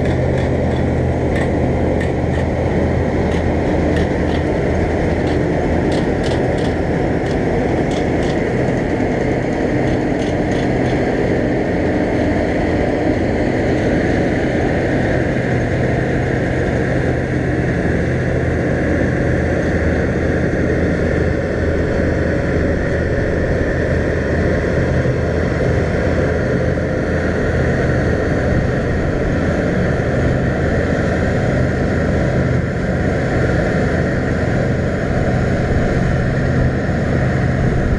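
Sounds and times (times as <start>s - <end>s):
diesel engine drone: 0.0s - 37.9s
threshing machinery noise: 0.0s - 37.9s.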